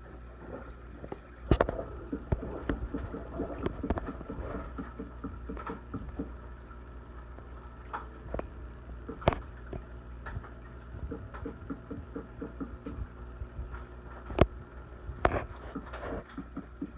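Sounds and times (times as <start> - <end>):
aquarium pump humming: 0.0 - 16.9.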